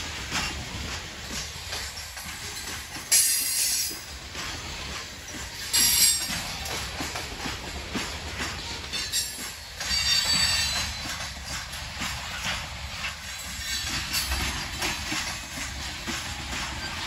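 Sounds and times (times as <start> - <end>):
freight train rumble: 0.0 - 17.0
train wheels clacking over rail joints: 0.0 - 17.0.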